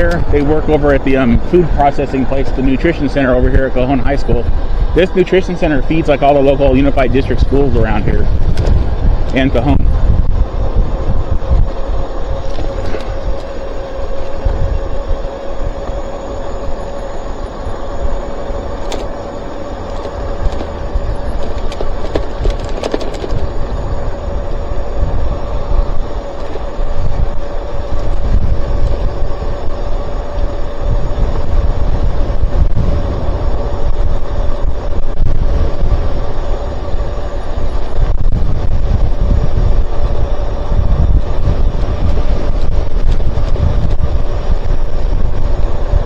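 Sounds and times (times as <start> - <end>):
electric motor whine: 0.0 - 46.0
wind buffeting microphone: 0.0 - 46.0.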